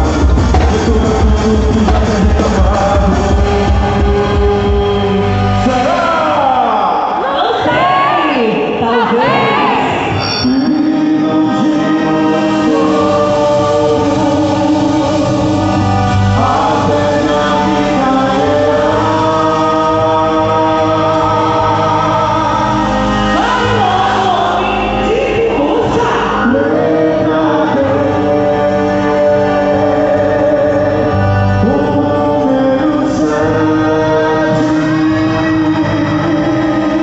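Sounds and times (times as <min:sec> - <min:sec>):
steady musical accompaniment: 0:00.0 - 0:37.0
voices singing long notes: 0:00.0 - 0:37.0.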